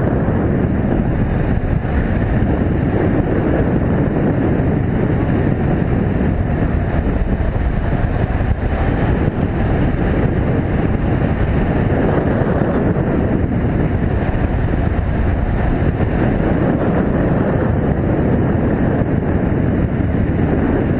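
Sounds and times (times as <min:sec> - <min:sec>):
wind rushing over microphone: 0:00.0 - 0:20.9.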